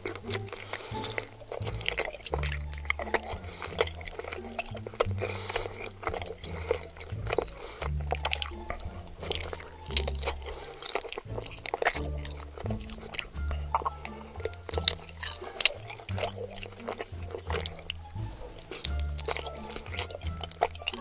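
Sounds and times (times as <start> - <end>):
background music bass line: 0.0 - 21.0
wet chewing and smacking: 0.0 - 21.0.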